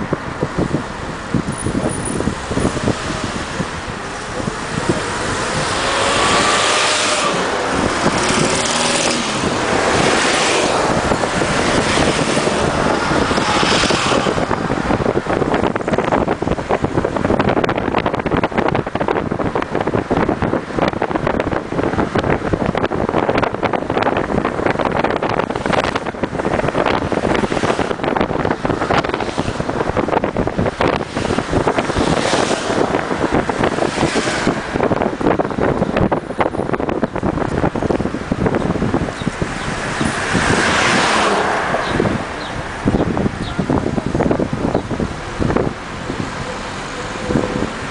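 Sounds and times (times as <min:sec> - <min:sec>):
road and wind noise in car: 0:00.0 - 0:47.9
wind gusting over microphone: 0:00.0 - 0:47.9.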